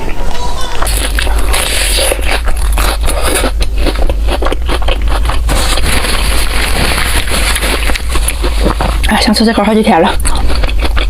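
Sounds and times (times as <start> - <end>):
chewing and crunching bread: 0.0 - 11.0
steady low hum: 0.0 - 11.0.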